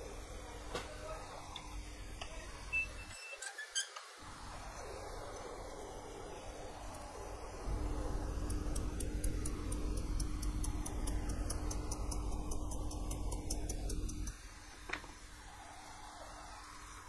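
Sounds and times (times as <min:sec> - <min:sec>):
low steady hum: 0:00.0 - 0:03.1, 0:04.2 - 0:17.0.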